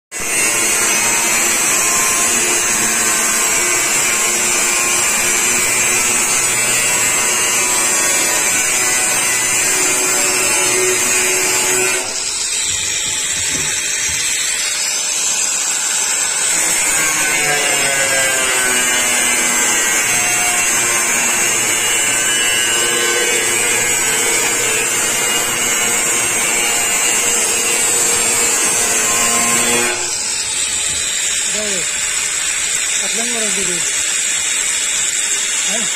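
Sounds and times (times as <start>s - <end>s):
angle grinder cutting metal: 0.1s - 35.9s.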